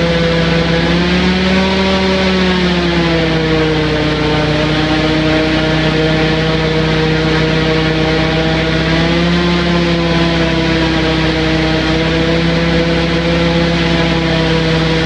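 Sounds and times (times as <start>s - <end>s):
airboat engine drone: 0.0s - 15.0s.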